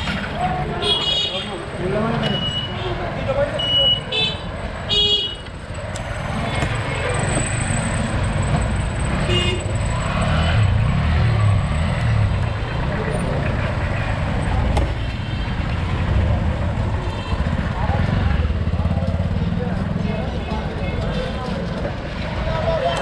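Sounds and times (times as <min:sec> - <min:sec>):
passing traffic: 0:00.0 - 0:23.0.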